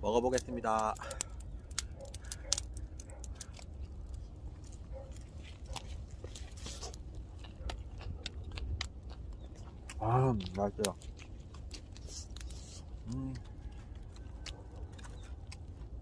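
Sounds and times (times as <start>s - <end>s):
wood fire crackling and popping: 0.0s - 16.0s
person chewing food: 0.8s - 16.0s.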